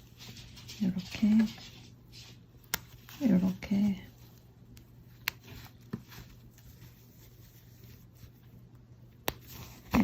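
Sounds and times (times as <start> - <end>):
cloth mask rustling: 0.0 - 10.0.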